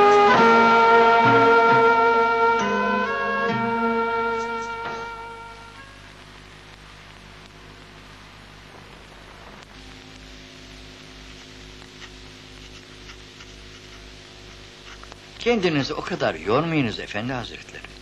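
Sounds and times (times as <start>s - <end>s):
mains hum and hiss: 0.0s - 18.0s.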